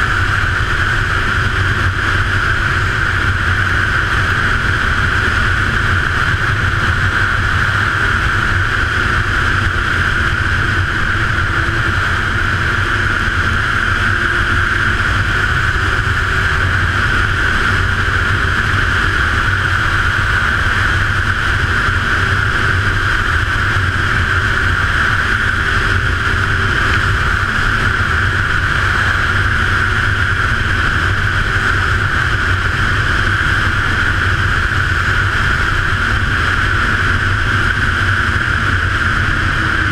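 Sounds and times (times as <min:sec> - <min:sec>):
snowmobile engine and track running: 0:00.0 - 0:39.9.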